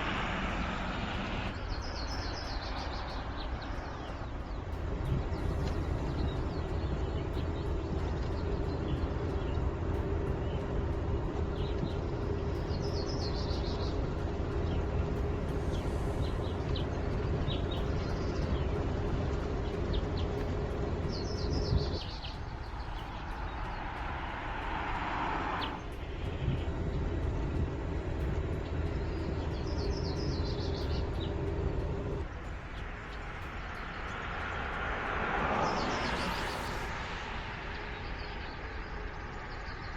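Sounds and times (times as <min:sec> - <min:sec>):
passing vehicle tyre whoosh: 0:00.0 - 0:39.6
birds chirping: 0:00.0 - 0:39.9
road and tyre rumble: 0:00.0 - 0:39.9.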